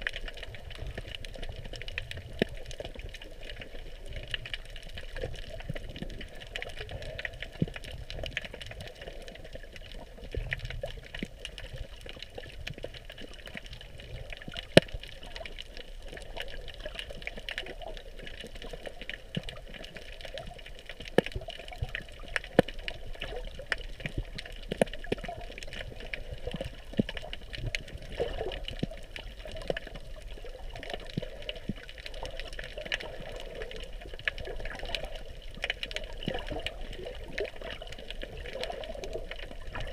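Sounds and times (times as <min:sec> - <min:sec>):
sharp underwater clicks: 0:00.0 - 0:39.9
underwater water noise: 0:00.0 - 0:39.9.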